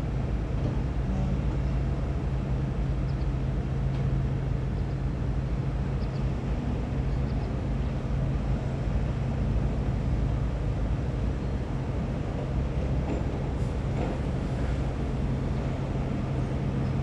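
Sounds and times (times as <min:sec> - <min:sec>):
heavy diesel engines droning: 0:00.0 - 0:17.0.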